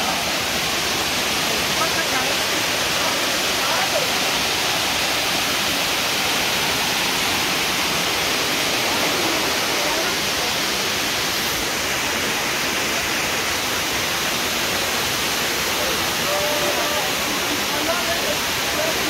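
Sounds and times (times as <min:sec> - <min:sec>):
water rushing over stone: 0:00.0 - 0:19.0.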